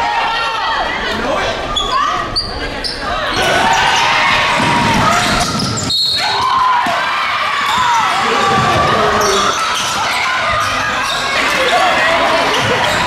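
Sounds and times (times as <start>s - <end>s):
voices of players and spectators: 0.0s - 13.0s.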